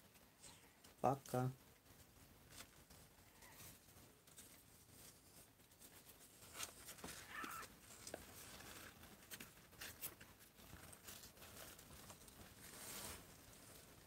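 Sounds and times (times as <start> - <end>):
hand rustling kittens' fur and cloth: 0.0 - 14.0.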